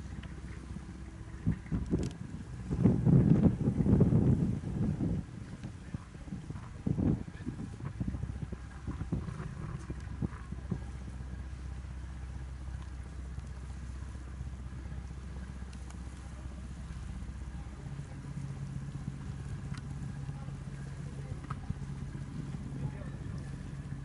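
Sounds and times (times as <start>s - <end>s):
ship engines humming: 0.0s - 24.0s.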